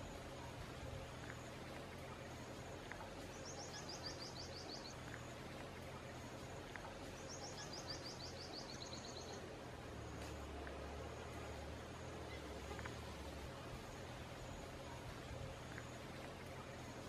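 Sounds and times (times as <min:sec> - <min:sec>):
outdoor background hiss: 0:00.0 - 0:17.0
songbird singing: 0:00.0 - 0:17.0.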